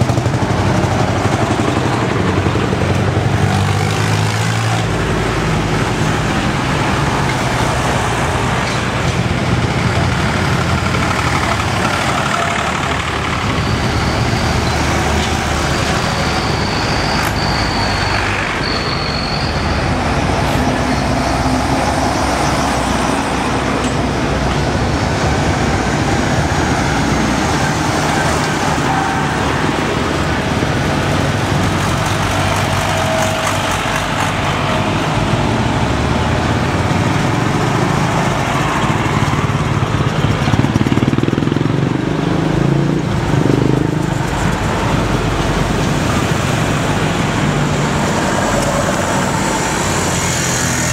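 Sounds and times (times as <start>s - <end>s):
tractor engines droning: 0.0s - 50.9s.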